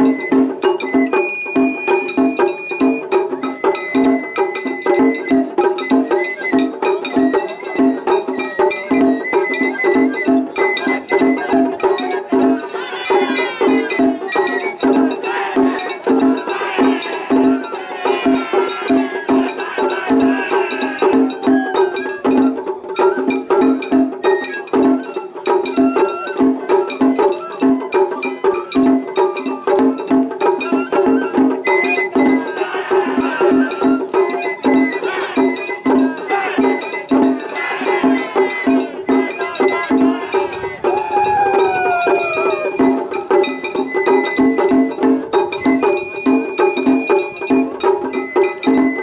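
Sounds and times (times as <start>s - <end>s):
bamboo flute melody: 0.0s - 49.0s
taiko drums beating: 0.0s - 49.0s.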